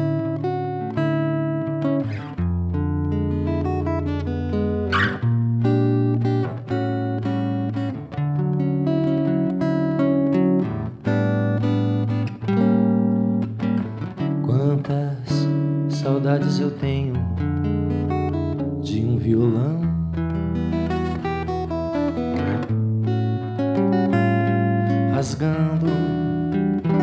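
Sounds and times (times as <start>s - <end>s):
acoustic guitar plucked: 0.0s - 27.0s.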